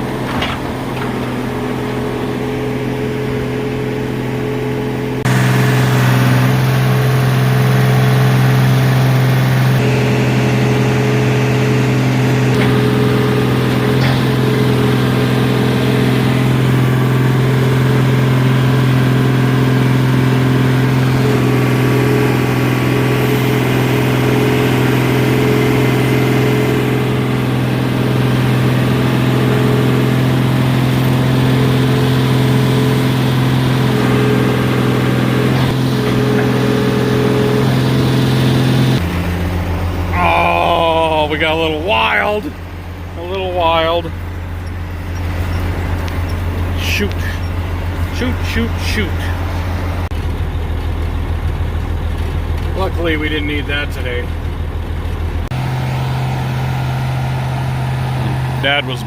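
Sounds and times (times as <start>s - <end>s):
heavy equipment engine humming: 0.0s - 59.0s.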